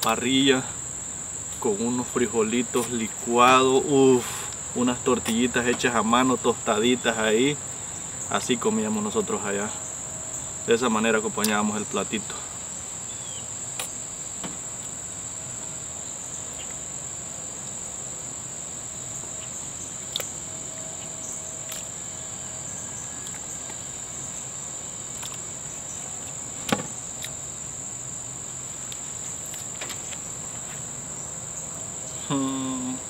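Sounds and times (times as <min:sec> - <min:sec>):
insect chirring: 0:00.0 - 0:33.0.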